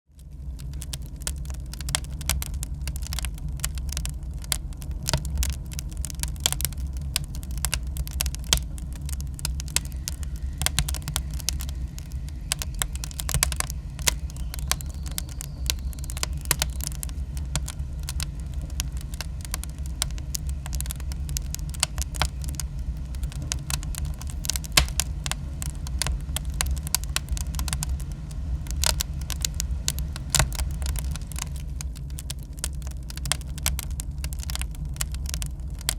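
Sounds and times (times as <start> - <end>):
fire crackling and popping: 0.1 - 35.9
low rumble: 0.2 - 35.9.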